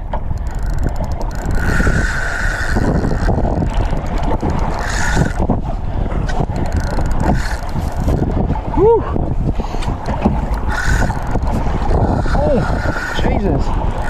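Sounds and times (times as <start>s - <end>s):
choppy water washing: 0.0s - 14.0s
wind buffeting microphone: 0.0s - 14.0s.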